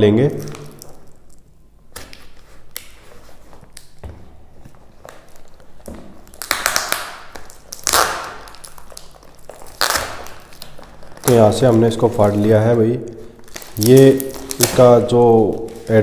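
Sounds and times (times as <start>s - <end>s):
plastic packaging crinkling: 0.2s - 16.0s
plastic tearing: 0.3s - 4.0s, 4.8s - 16.0s.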